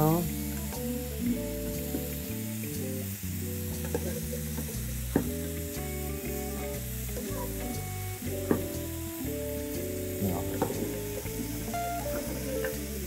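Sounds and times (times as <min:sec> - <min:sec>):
background music: 0:00.0 - 0:13.0
food frying in oil: 0:00.0 - 0:13.0.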